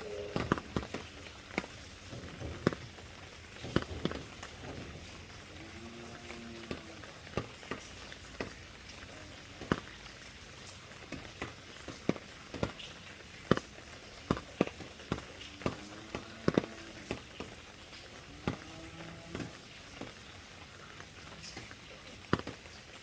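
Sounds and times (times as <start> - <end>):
raindrops dripping on a surface: 0.0 - 23.0
soft hiss of rain: 0.0 - 23.0.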